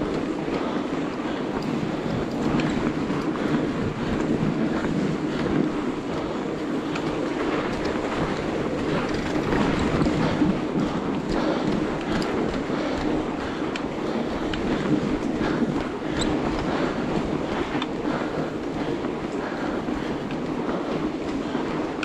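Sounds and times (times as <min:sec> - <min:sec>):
tyres and rollers rumbling on snow: 0:00.0 - 0:22.0.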